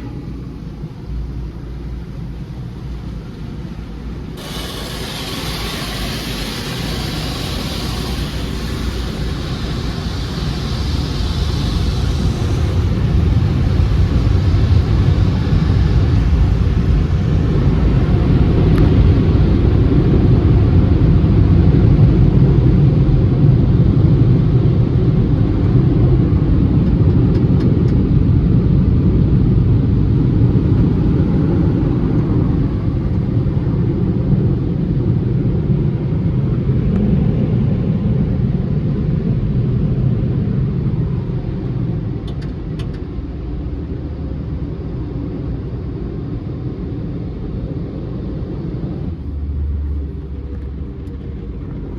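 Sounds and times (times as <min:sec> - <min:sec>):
car wash machinery rumble: 0:00.0 - 0:51.9.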